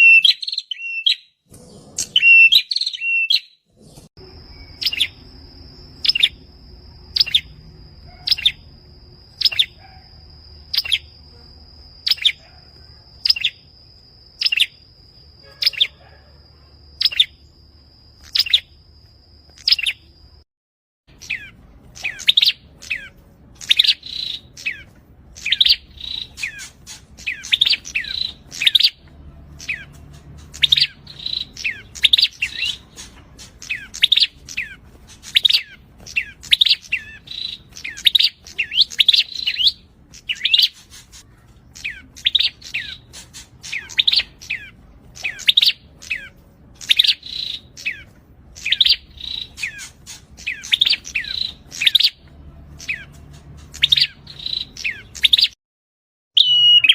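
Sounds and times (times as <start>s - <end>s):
bird singing sharp chirps: 0.0s - 16.0s, 16.9s - 18.8s, 19.5s - 20.1s, 21.1s - 55.6s, 56.4s - 56.9s.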